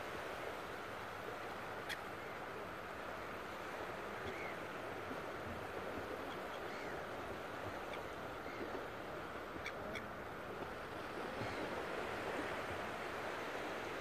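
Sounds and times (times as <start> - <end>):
distant surf: 0.0 - 14.0
wind: 0.0 - 14.0.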